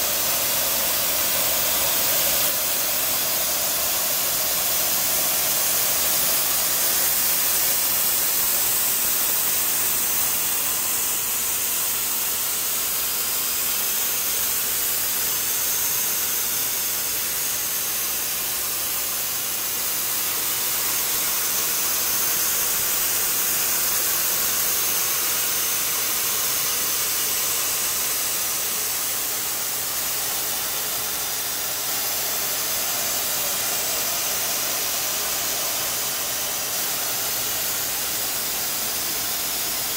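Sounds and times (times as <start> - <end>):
high hiss of spinning rolls: 0.0 - 39.9.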